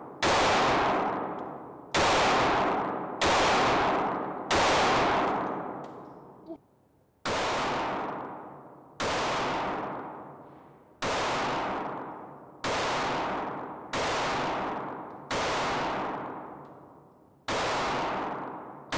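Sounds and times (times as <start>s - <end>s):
pistol shots echoing indoors: 0.0s - 6.5s, 7.1s - 18.9s.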